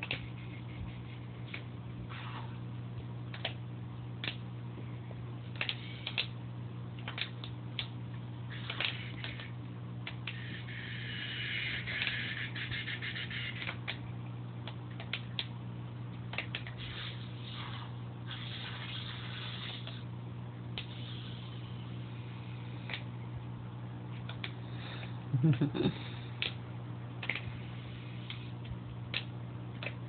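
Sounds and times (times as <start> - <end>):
aquarium equipment hum: 0.0 - 30.0.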